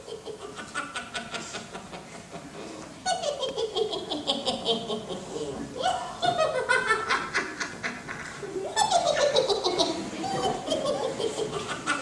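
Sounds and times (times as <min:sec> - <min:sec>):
high-pitched cackling laughter: 0:00.0 - 0:02.0, 0:03.0 - 0:05.2, 0:05.8 - 0:12.0.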